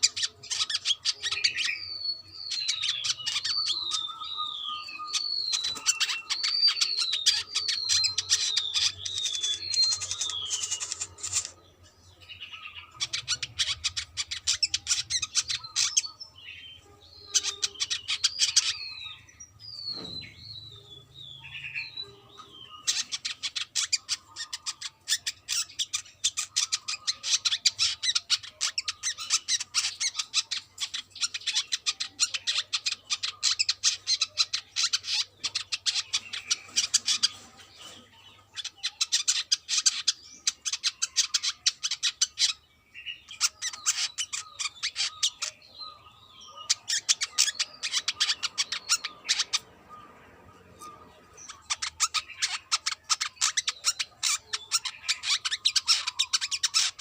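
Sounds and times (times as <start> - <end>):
bird singing rapid chatter: 0.0 - 57.0.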